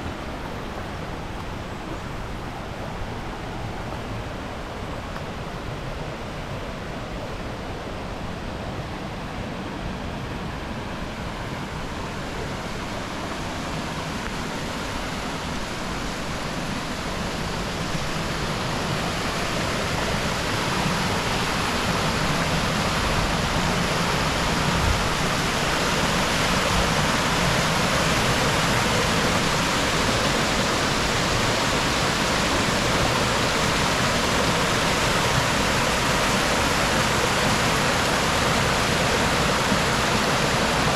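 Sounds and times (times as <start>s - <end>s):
rushing river and waterfall: 0.0s - 40.9s.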